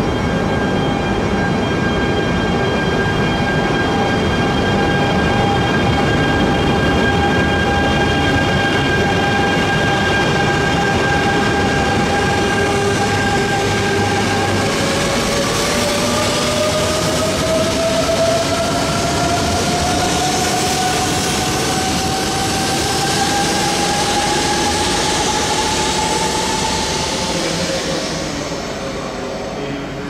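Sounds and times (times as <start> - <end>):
rush of train wheels: 0.0 - 30.0.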